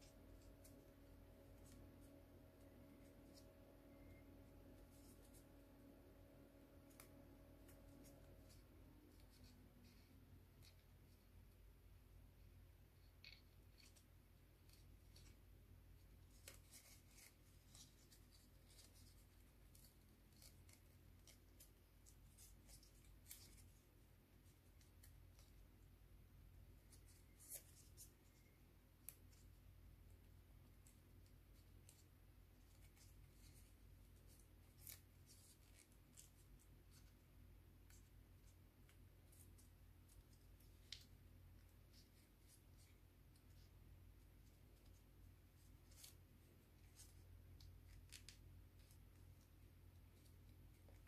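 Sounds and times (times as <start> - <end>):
paper rustling and creasing: 0.0 - 11.6, 13.0 - 25.9, 26.6 - 51.0
low steady hum: 0.0 - 51.0.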